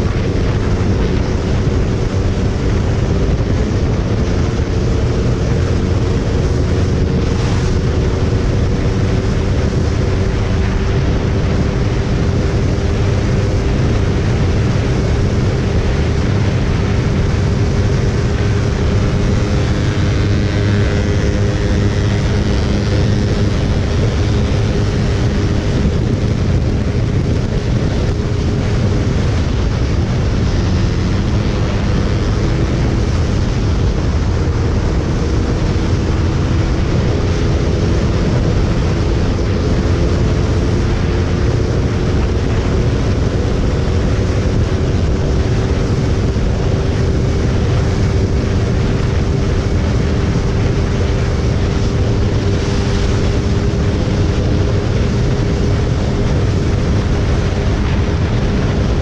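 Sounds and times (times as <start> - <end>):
heavy wind rush: 0.0 - 59.0
motorcycle engine at high speed: 0.0 - 59.0.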